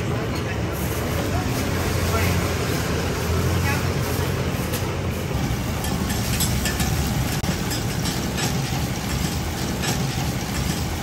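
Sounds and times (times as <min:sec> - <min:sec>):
dough-sheeting machine humming: 0:00.0 - 0:11.0.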